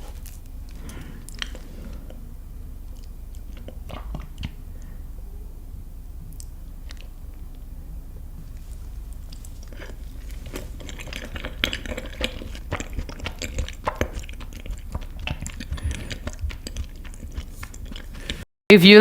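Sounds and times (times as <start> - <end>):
crunching and chewing: 0.0 - 5.1, 6.3 - 18.4.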